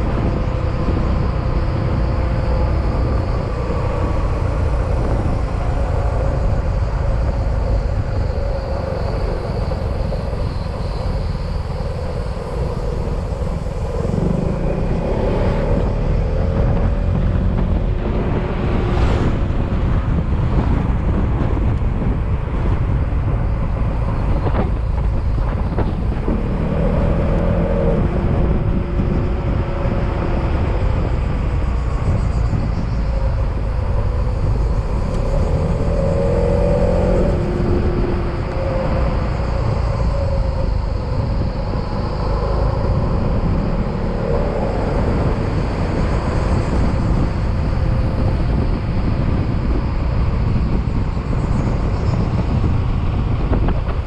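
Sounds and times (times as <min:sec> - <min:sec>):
wind rushing on microphone: 0:00.0 - 0:54.0.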